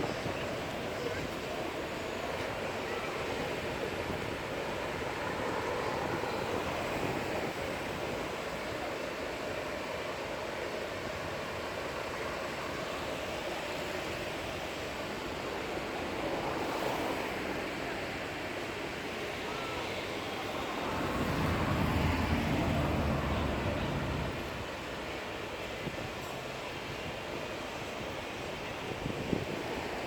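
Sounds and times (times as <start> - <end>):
wind and distant surf: 0.0 - 30.0.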